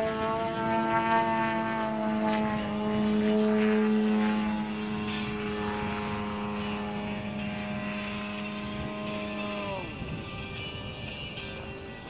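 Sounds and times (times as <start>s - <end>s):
model plane engine and propeller: 0.0s - 12.0s.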